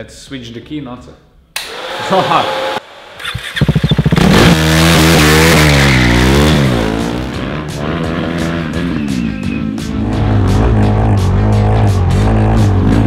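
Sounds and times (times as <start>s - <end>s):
motorcycle engine revving: 2.4s - 13.0s.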